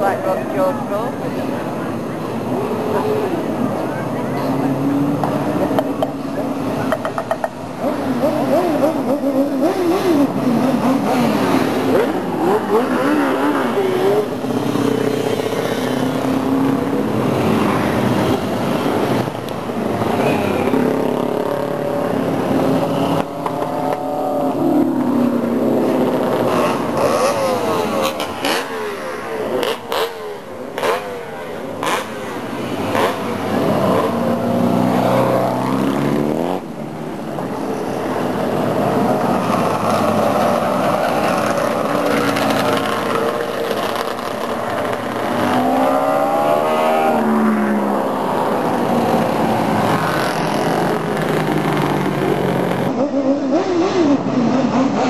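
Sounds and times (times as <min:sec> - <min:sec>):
motorcycles revving past: 0:04.4 - 0:55.0.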